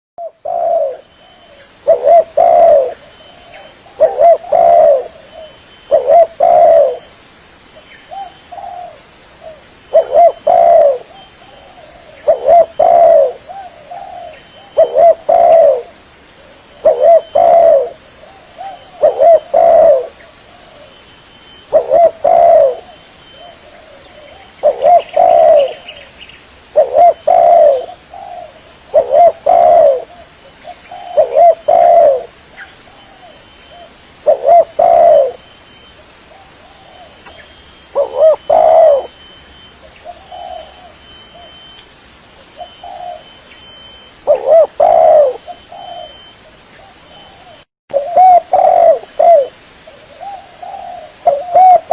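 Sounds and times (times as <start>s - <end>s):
dove cooing: 0.2s - 7.1s, 8.1s - 21.0s, 21.6s - 26.1s, 26.7s - 35.5s, 36.3s - 41.7s, 42.5s - 51.9s
small birds chirping: 0.4s - 51.9s.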